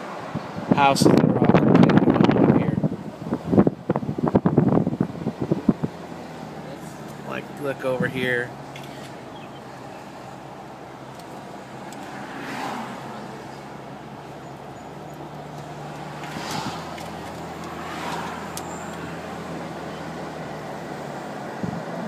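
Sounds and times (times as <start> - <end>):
car engine hum: 0.0 - 22.0
tyre and road noise: 0.0 - 22.0.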